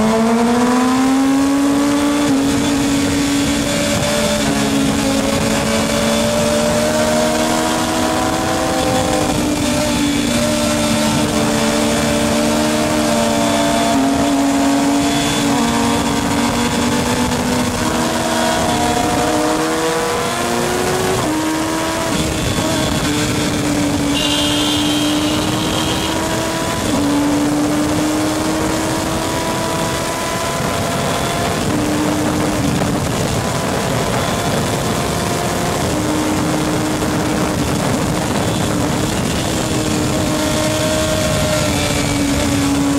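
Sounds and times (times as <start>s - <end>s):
racing motorcycle engines: 0.0s - 42.9s.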